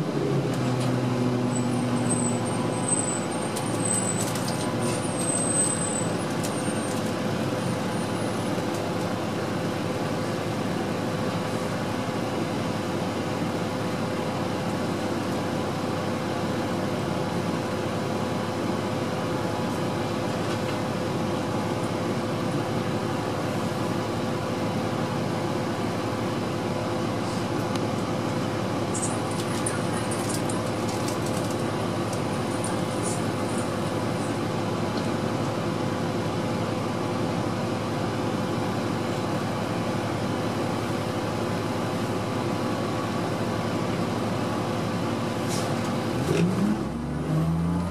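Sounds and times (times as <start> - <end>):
bus diesel engine idling: 0.0 - 47.0.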